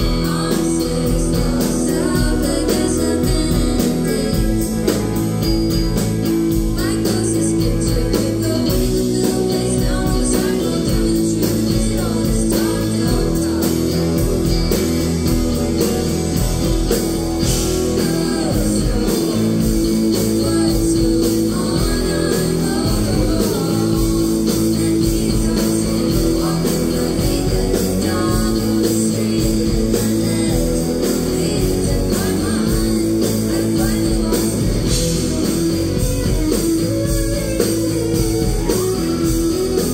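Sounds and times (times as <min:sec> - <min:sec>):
women singing: 0:00.0 - 0:05.5, 0:06.5 - 0:39.9
drums: 0:00.0 - 0:39.9
electric bass: 0:00.0 - 0:39.9
electric guitar: 0:00.0 - 0:39.9.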